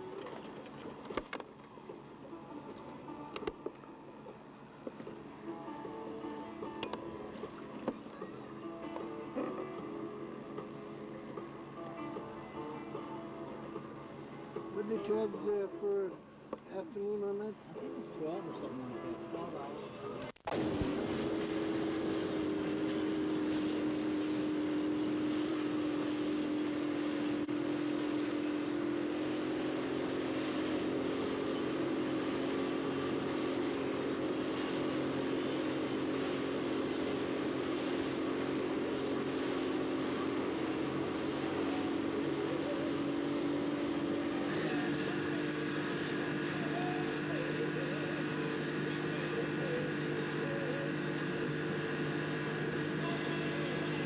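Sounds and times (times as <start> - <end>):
boat engine drone: 0.0 - 54.0.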